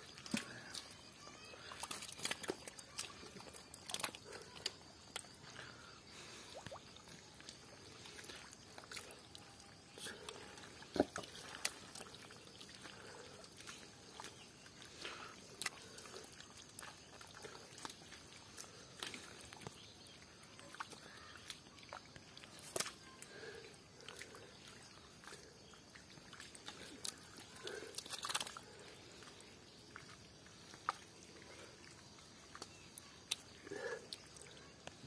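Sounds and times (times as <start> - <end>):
hands squelching in wet mud: 0.0 - 35.0.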